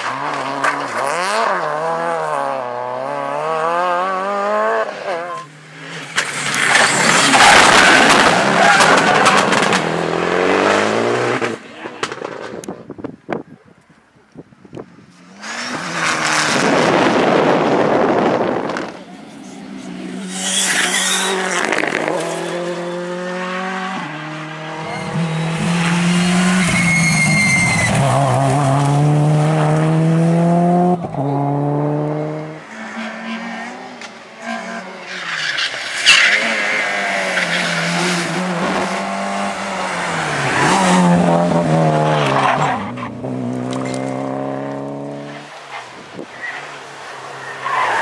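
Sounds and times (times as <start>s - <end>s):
rally car engines revving: 0.0s - 12.8s, 15.2s - 48.0s.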